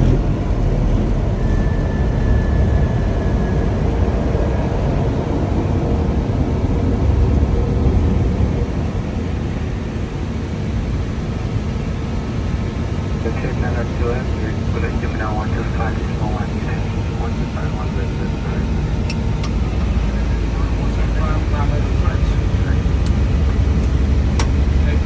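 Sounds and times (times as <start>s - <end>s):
airflow and engine rumble: 0.0s - 25.0s.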